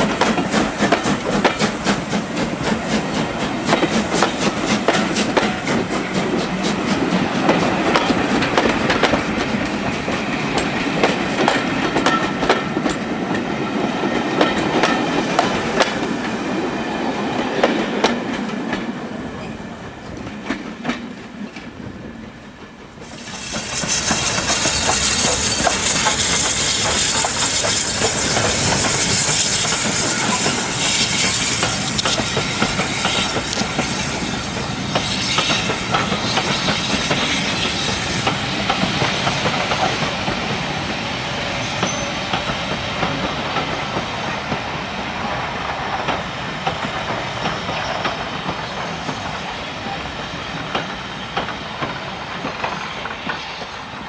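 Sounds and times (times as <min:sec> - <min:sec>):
steam locomotive hiss: 0:00.0 - 0:21.2, 0:22.0 - 0:54.0
train wheels clickety-clack: 0:00.0 - 0:54.0.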